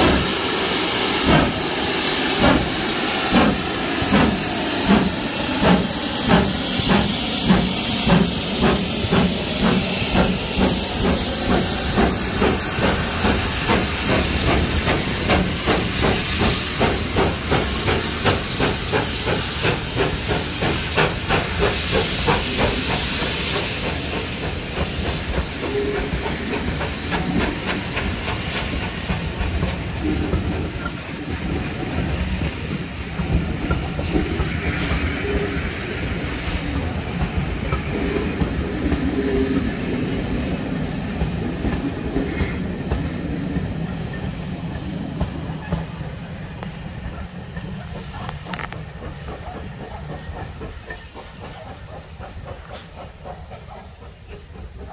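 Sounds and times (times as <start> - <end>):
steam locomotive exhaust beats: 0.0 - 54.9.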